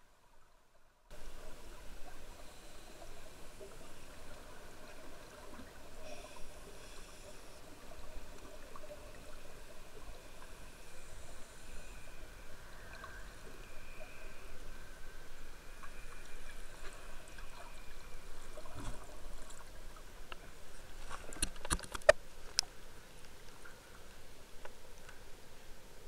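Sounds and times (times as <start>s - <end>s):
underwater rumble and hiss: 0.2s - 26.0s.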